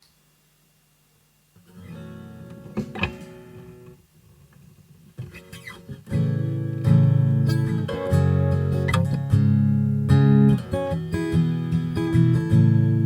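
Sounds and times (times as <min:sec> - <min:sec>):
faint steady hum: 0:00.0 - 0:13.0
acoustic guitar playing: 0:01.6 - 0:13.0.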